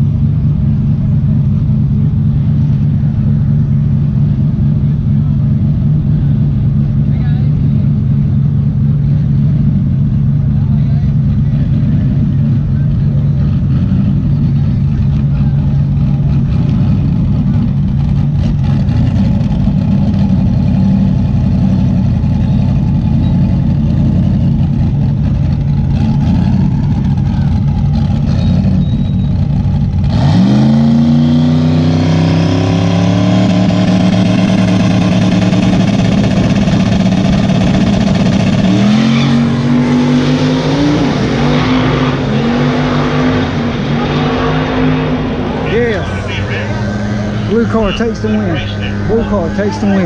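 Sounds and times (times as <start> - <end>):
drag cars idling loudly: 0.0 - 31.5, 32.2 - 39.8, 45.1 - 50.0
drag car engines roaring: 0.0 - 50.0.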